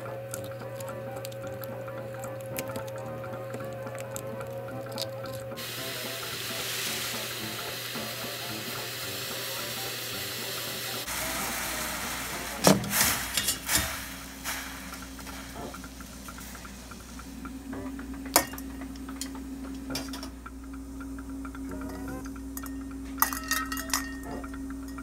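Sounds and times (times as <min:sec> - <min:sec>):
water boiling hiss: 0:00.0 - 0:25.0.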